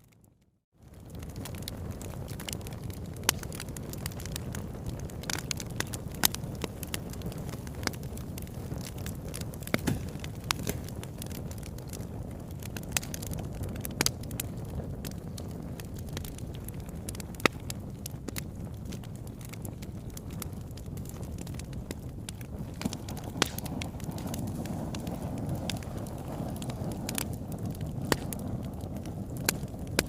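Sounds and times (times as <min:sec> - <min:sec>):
fire crackling and popping: 0:00.0 - 0:30.0
wood fire burning: 0:00.1 - 0:30.0.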